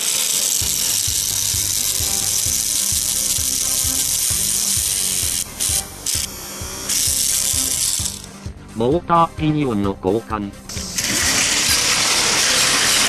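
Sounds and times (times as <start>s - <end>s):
toy train motor whirring: 0.0s - 8.4s, 10.7s - 13.0s.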